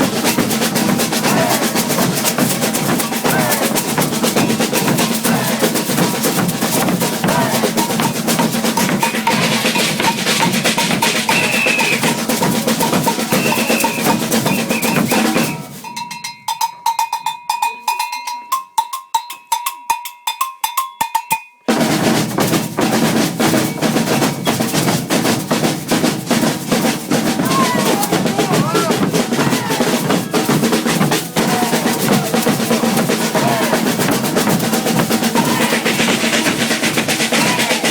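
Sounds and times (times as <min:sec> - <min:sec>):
snare drums: 0:00.0 - 0:16.0, 0:21.7 - 0:37.9
alfaia drums: 0:00.0 - 0:16.8, 0:21.7 - 0:37.9
shakers: 0:00.0 - 0:18.1, 0:22.2 - 0:37.9.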